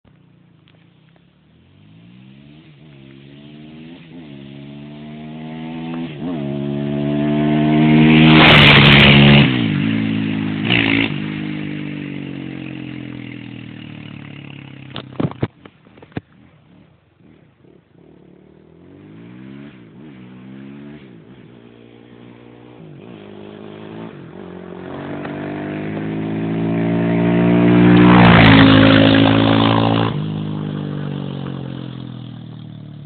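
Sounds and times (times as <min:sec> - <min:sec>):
quad engine accelerating past: 0:01.5 - 0:15.2, 0:16.4 - 0:33.0.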